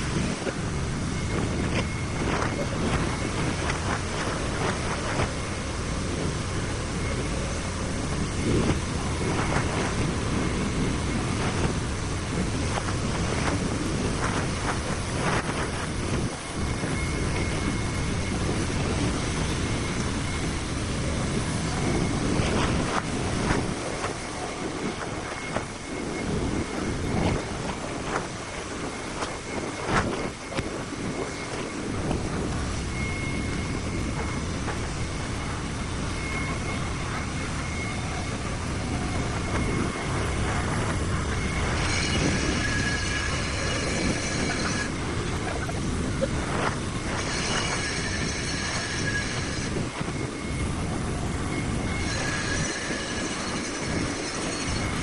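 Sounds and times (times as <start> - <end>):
faint high whine: 0.0 - 55.0
machinery rumble: 0.0 - 55.0
wind rushing: 0.0 - 55.0.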